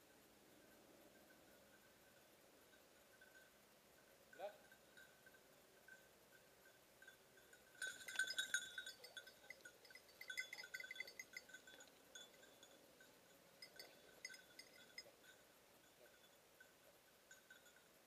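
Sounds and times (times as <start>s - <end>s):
small collar bell jingling: 0.7s - 18.0s.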